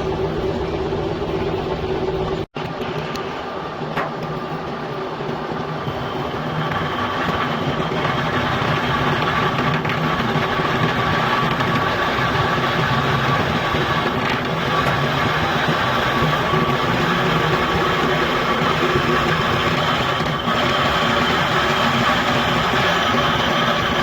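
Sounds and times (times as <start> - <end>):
metal lathe humming: 3.1 - 24.0.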